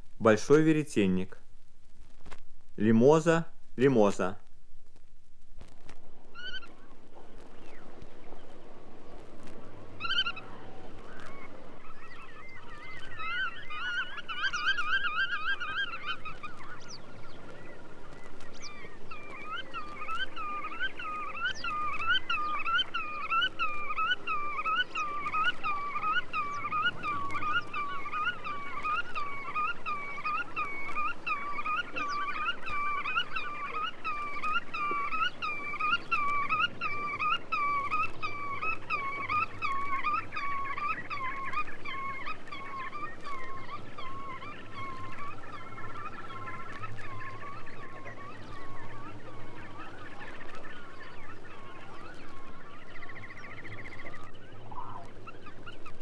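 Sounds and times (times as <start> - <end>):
godwit calling: 9.8 - 56.0.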